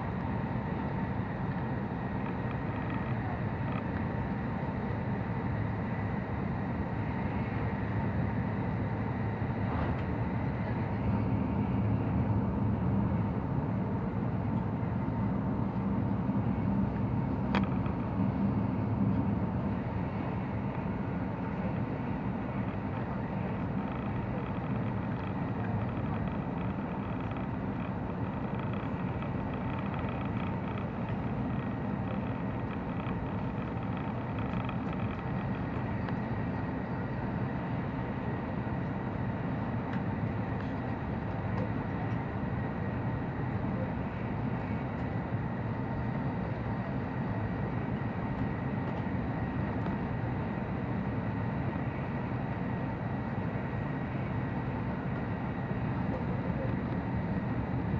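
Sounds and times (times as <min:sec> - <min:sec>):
train cabin rumble: 0:00.0 - 0:57.9.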